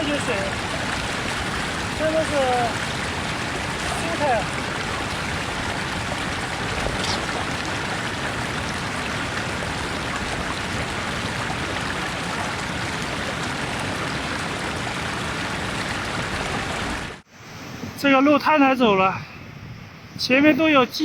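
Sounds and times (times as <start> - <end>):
spring water running: 0.0 - 17.2.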